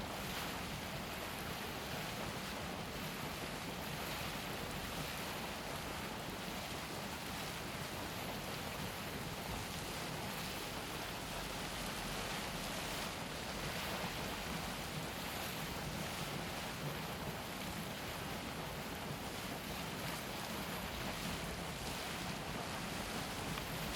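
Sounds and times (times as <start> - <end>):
hot spring water bubbling: 0.0 - 23.9.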